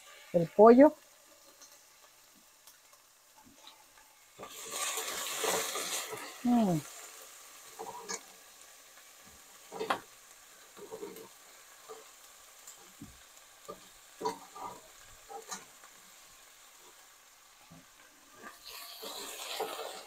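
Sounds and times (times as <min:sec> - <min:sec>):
faint sizzle: 0:00.0 - 0:20.0.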